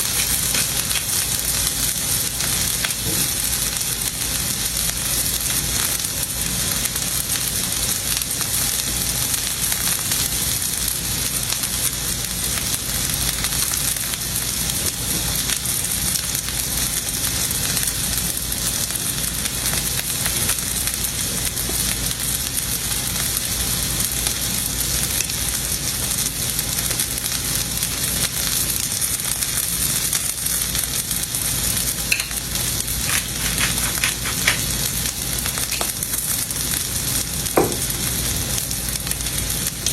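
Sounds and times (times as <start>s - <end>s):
steak sizzling: 0.0s - 39.9s.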